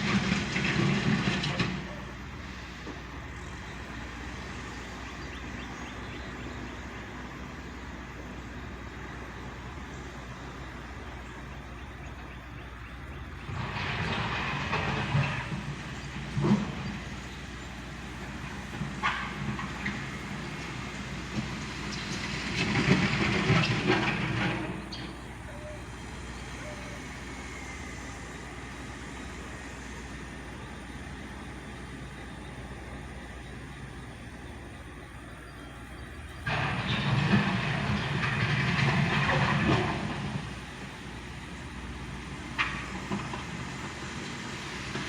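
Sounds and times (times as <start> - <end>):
gravel scraping and clanking: 0.0 - 4.5, 12.8 - 45.0
backhoe diesel engine running: 0.0 - 45.0.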